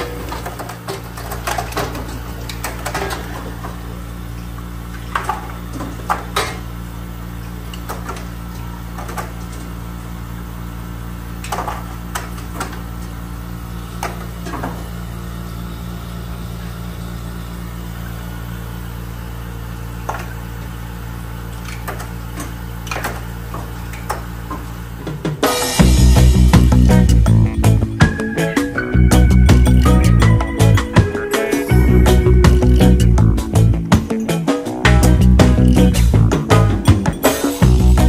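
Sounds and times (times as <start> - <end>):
ice machine humming: 0.0 - 38.0.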